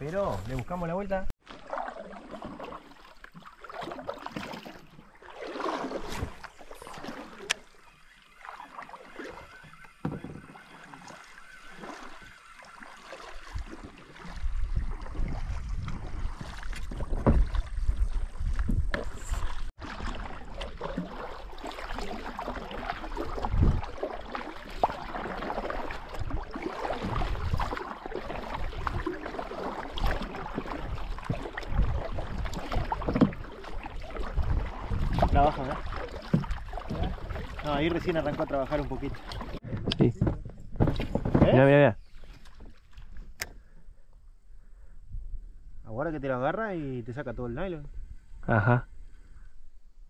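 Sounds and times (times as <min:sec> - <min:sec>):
kayak paddles splashing in water: 0:00.0 - 0:43.8.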